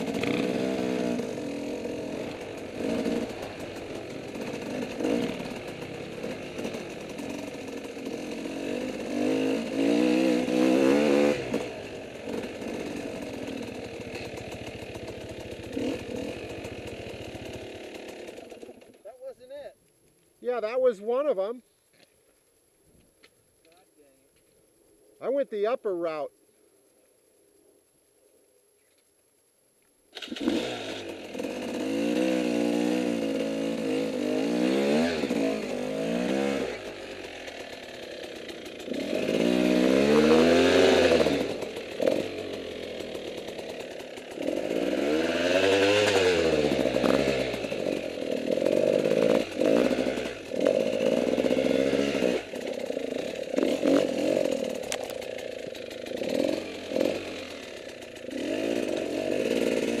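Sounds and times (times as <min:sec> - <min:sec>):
dirt bike engine revving: 0:00.0 - 0:19.0, 0:30.2 - 1:00.0.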